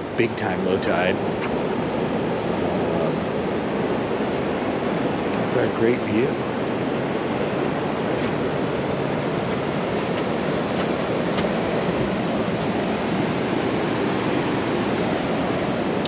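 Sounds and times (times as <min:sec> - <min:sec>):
ocean surf breaking: 0:00.0 - 0:16.0
wind: 0:00.0 - 0:16.0.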